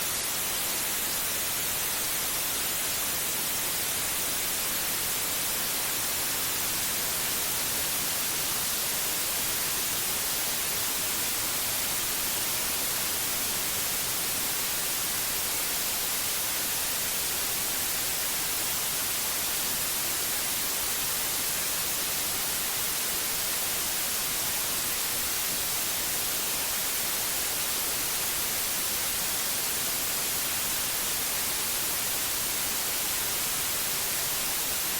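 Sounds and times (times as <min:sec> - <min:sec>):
steady white noise hiss: 0:00.0 - 0:34.9.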